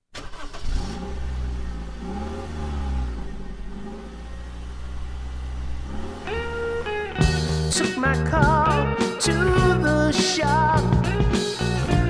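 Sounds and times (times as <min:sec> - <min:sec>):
car engine revving and idling: 0:00.2 - 0:12.0.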